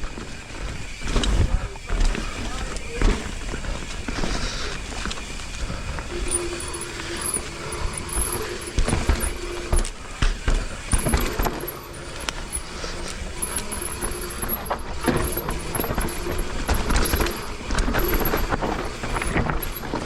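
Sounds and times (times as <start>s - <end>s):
bike rattling: 0.0s - 20.0s
bike tyres rolling on dirt: 0.0s - 20.0s
steady humming tone: 0.0s - 20.0s.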